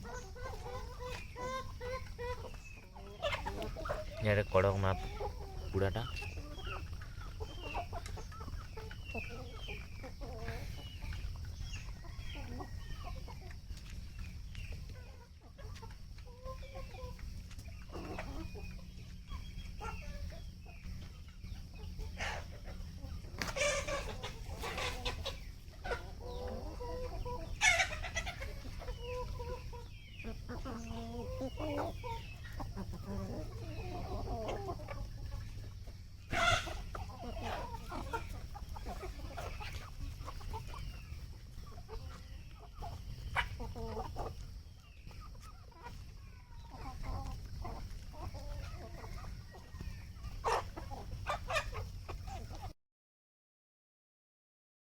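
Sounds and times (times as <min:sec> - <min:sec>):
chicken squawks: 0:00.0 - 0:13.6, 0:14.8 - 0:52.7
chickens clucking: 0:00.0 - 0:52.8.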